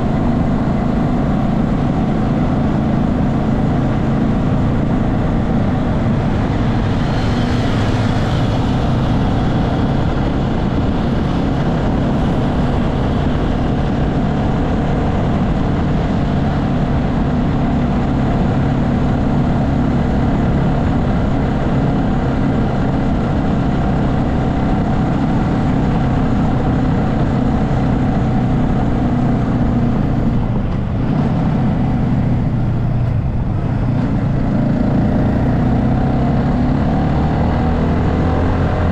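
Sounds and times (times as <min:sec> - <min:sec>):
motorbike engine cruising: 0:00.0 - 0:38.9
road noise: 0:00.0 - 0:38.9
rushing wind: 0:00.0 - 0:38.9.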